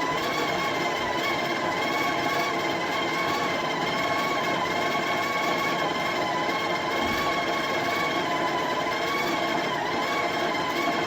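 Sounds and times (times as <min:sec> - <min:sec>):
coffee grinder motor whine: 0:00.0 - 0:11.0.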